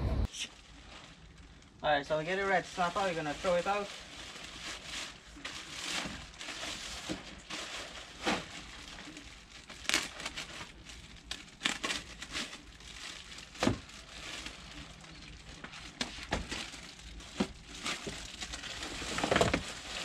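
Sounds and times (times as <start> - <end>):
plastic wrapping crinkling: 0.2 - 20.0.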